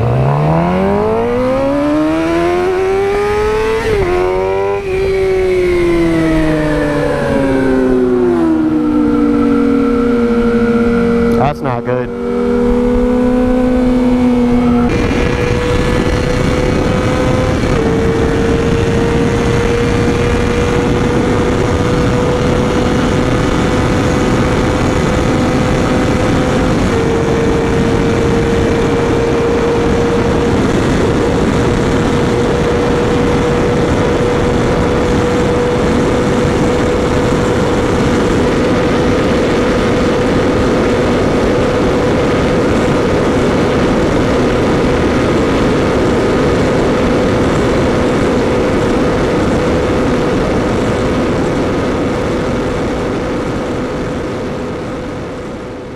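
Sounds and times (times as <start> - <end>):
motorcycle engine: 0.0 - 55.9
wind noise: 0.0 - 55.9.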